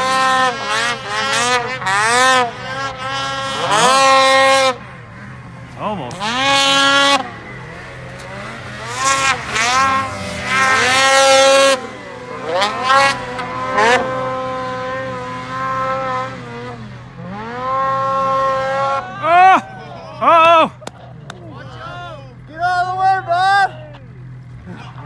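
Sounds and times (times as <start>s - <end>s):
snowmobile engines revving hard: 0.0s - 25.0s.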